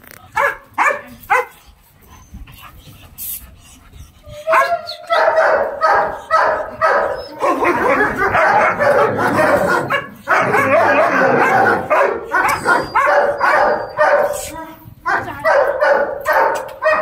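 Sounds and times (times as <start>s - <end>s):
dog barking: 0.4s - 1.5s, 4.5s - 17.0s.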